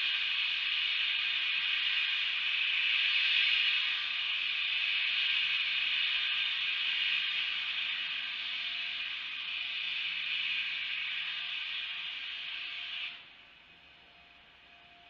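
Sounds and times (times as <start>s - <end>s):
steam venting hiss: 0.0s - 15.0s.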